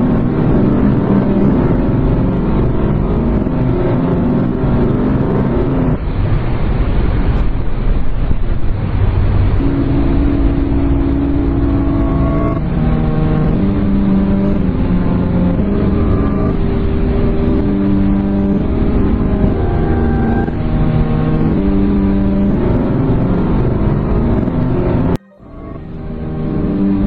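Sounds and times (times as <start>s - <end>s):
held electronic tones stepping pitch: 0.0s - 6.0s, 9.6s - 27.0s
loud continuous rumble: 0.0s - 27.0s.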